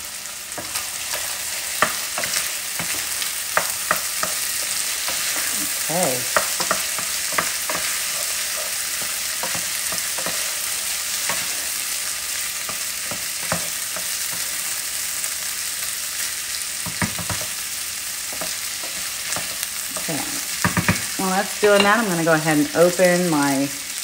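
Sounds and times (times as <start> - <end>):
chicken sizzling in a pan: 0.0 - 24.0.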